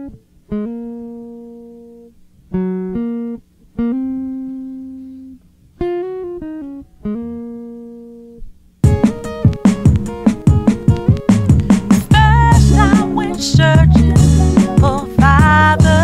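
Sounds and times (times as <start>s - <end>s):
plucked solo guitar: 0.0s - 16.0s.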